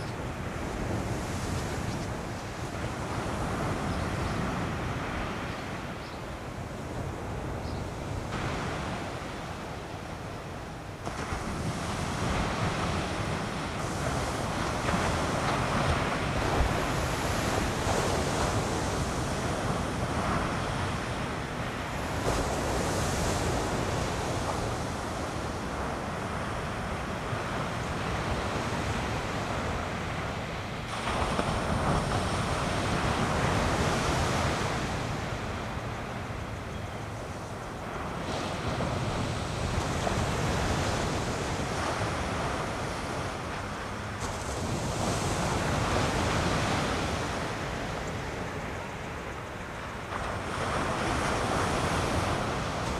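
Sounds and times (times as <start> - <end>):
ocean surf breaking on beach: 0.0 - 52.9
wind on microphone: 0.0 - 52.9.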